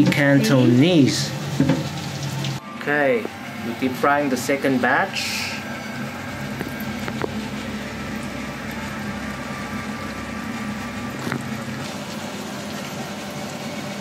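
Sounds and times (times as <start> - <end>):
oil sizzling and bubbling: 0.0 - 14.0
low hum: 2.5 - 14.0.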